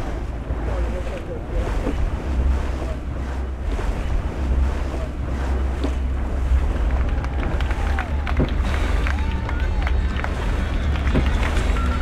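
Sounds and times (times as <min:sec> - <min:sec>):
sea water and waves rushing: 0:00.0 - 0:12.0
wind buffeting microphone: 0:00.0 - 0:12.0.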